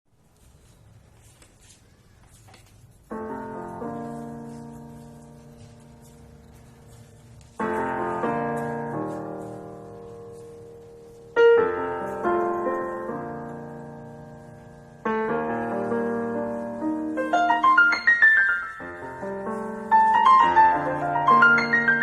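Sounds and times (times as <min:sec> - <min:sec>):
piano chords: 0:03.0 - 0:22.0.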